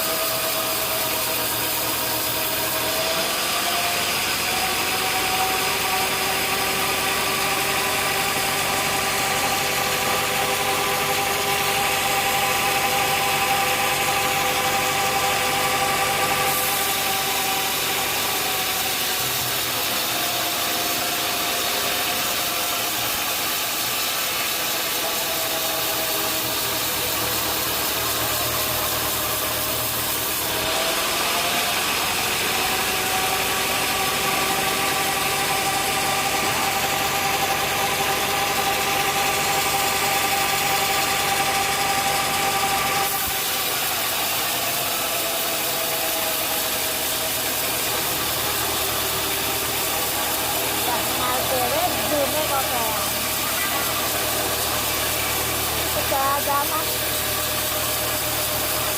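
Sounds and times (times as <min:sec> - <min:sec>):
machinery hiss: 0:00.0 - 0:58.9
sawmill motor hum and whine: 0:00.0 - 0:58.9.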